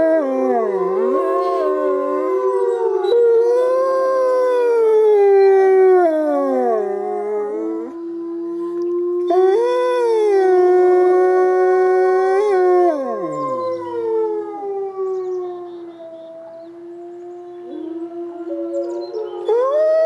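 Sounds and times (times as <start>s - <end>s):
higher wolf howl: 0.0s - 20.0s
low wolf howl: 0.0s - 20.0s.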